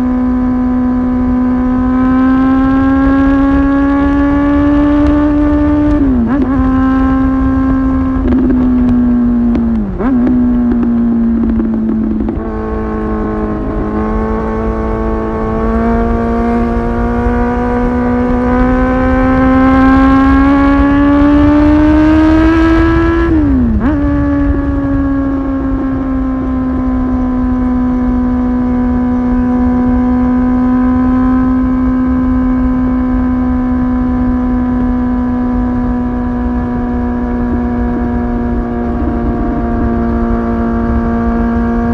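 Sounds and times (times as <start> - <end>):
motorcycle engine accelerating: 0.0 - 41.9
wind rumble: 0.0 - 41.9.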